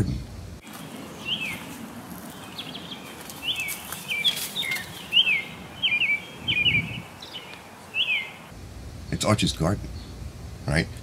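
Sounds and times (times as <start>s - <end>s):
small songbirds chirping: 0.0s - 10.3s.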